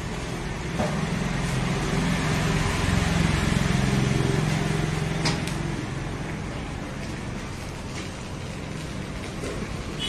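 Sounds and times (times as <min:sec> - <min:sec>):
road traffic engine hum: 0:00.0 - 0:10.0.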